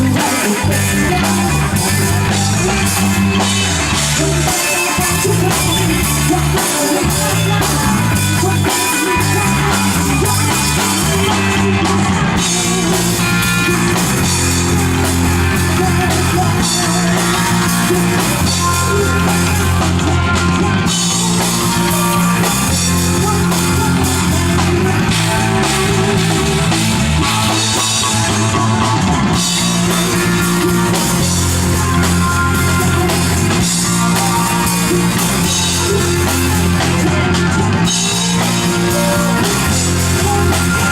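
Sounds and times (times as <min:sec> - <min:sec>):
bass guitar long notes: 0:00.0 - 0:40.9
drum kit with cymbals: 0:00.0 - 0:40.9
electric guitar: 0:00.0 - 0:40.9.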